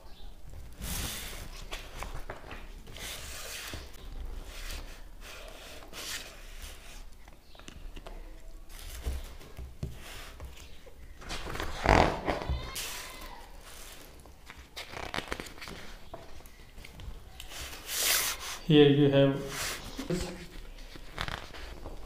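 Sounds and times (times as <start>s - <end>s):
book pages turning and rustling: 0.4s - 18.7s, 19.5s - 22.0s.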